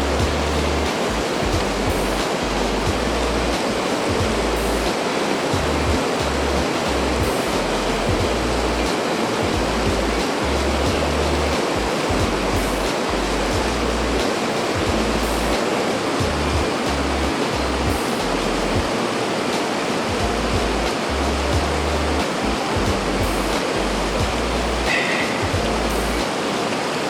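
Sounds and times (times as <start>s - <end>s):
low bass music: 0.0s - 19.3s, 20.1s - 26.3s
fast-flowing river: 0.0s - 27.0s.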